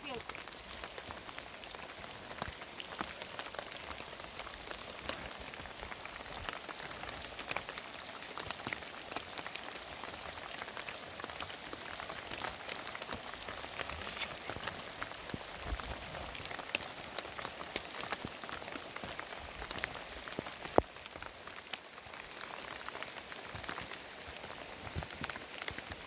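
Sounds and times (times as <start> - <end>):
heavy rain falling: 0.0 - 26.0
raindrops ticking close by: 0.0 - 26.0.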